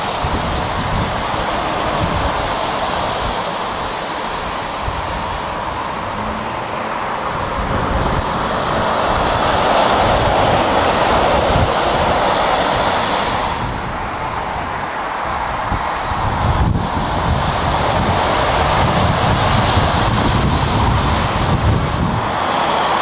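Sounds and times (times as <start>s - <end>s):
lorries and traffic passing: 0.0s - 23.0s
wind buffeting microphone: 0.0s - 23.0s.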